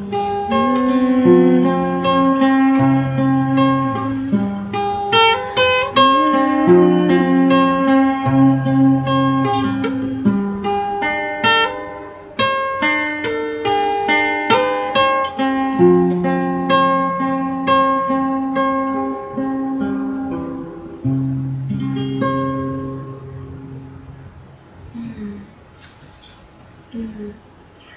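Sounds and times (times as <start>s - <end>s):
acoustic guitar playing: 0.0s - 26.2s.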